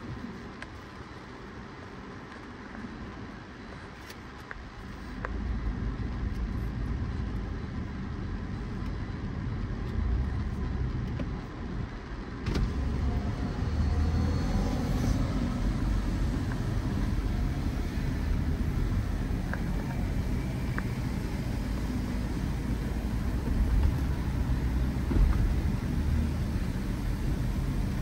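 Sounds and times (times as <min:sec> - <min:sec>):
car engine rumbling: 0:04.6 - 0:28.0.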